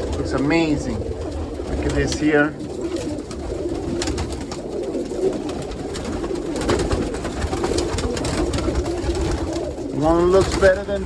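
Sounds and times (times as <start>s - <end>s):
birds moving with clicks and scuffs: 0.0s - 11.0s
pigeons cooing: 0.0s - 11.0s.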